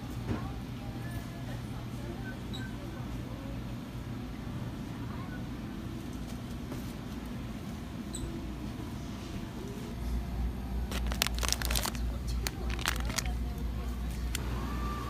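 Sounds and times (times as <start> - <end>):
faint indistinct voices: 0.0 - 6.7, 9.1 - 15.0.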